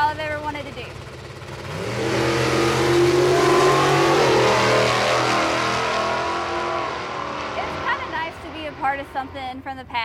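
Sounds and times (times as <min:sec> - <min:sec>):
drag racing car engine running: 0:00.0 - 0:10.0.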